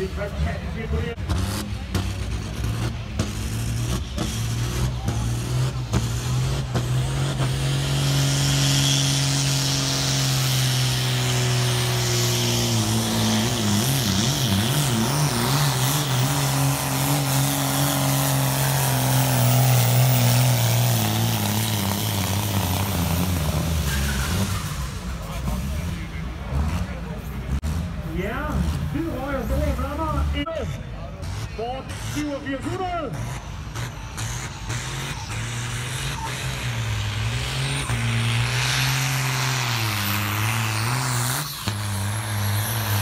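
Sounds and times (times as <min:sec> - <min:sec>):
tractor engine under heavy load: 0:00.0 - 0:43.0.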